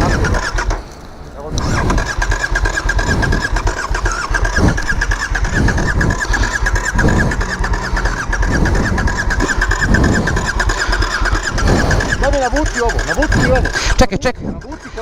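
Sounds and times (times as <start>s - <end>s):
motorcycle starter cranking: 0.0s - 15.0s.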